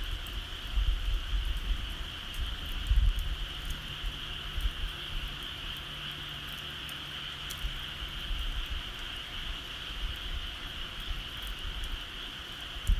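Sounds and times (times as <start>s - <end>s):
bonfire crackling and popping: 0.0s - 12.9s.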